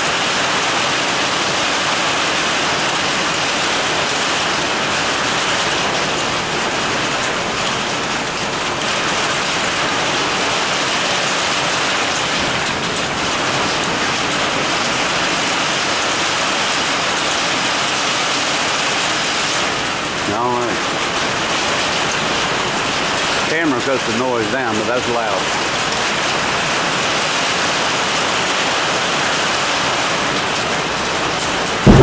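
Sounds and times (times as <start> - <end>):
heavy rain on metal roof: 0.0 - 32.0.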